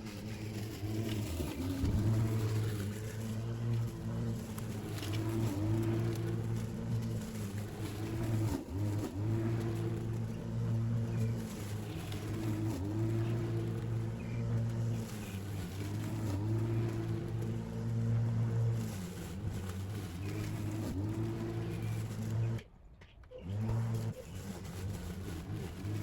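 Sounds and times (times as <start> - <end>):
lawn mower cutting grass: 0.0 - 26.0.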